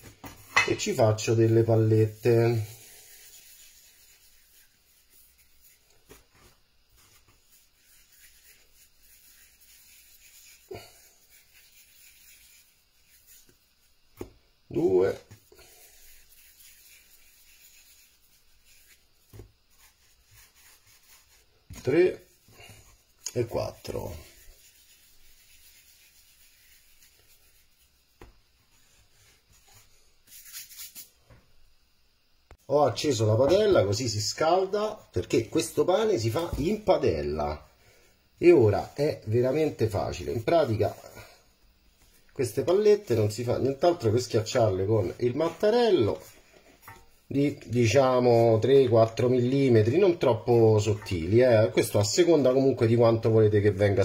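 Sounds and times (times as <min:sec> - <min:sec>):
hands rubbing bread dough: 0:00.0 - 0:31.3, 0:32.7 - 0:54.0.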